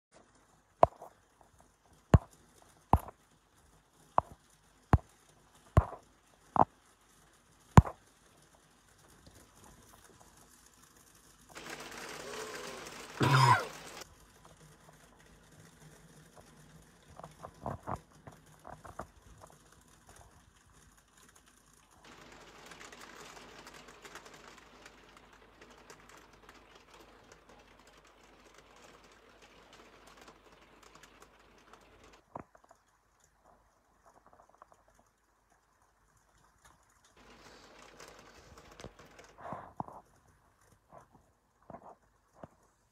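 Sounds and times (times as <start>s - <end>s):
soft steady hiss: 0.1s - 42.9s
raindrops tapping hard surface: 0.2s - 42.7s.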